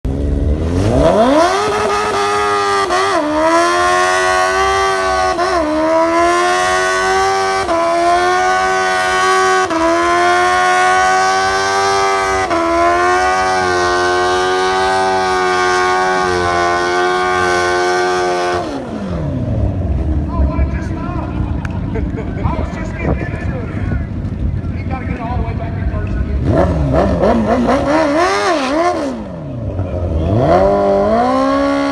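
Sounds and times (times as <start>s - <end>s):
motorcycle engine at full throttle: 0.0s - 31.9s.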